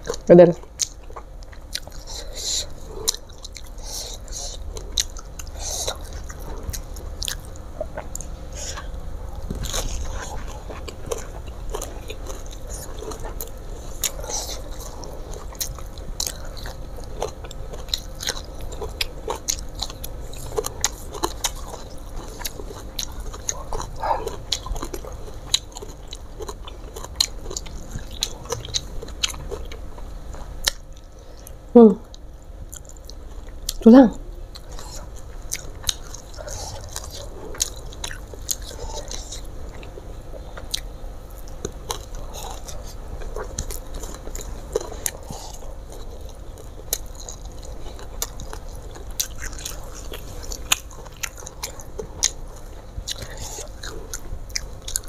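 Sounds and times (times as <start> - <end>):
close chewing: 0.0 - 33.8, 34.4 - 55.0.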